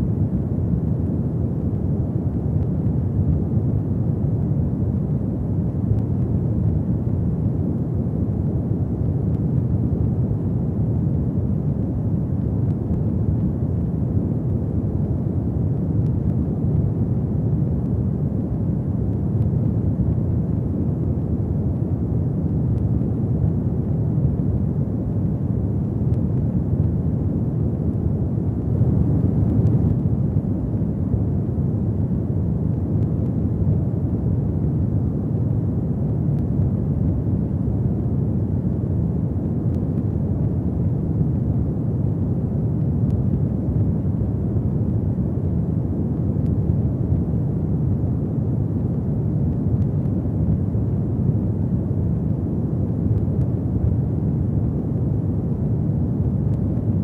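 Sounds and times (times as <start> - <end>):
fireplace fire burning: 0.1 - 57.0.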